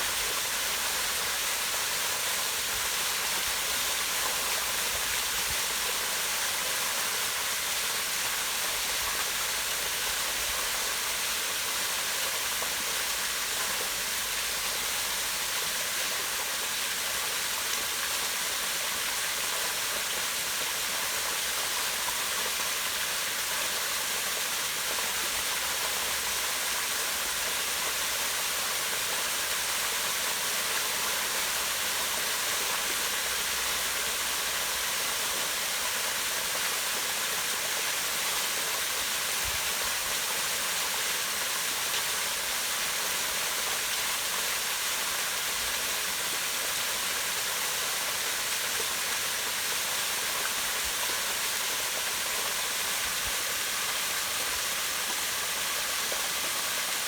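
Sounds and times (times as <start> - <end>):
waterfall splashing into pond: 0.0 - 57.0.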